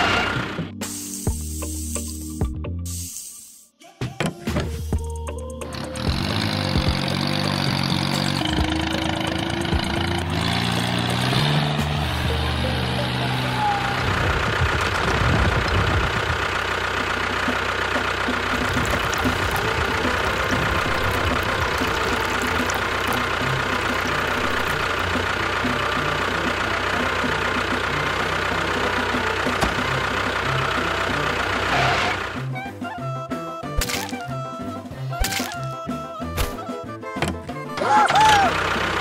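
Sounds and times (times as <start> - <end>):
engine idling with knocking beat: 4.4 - 39.0.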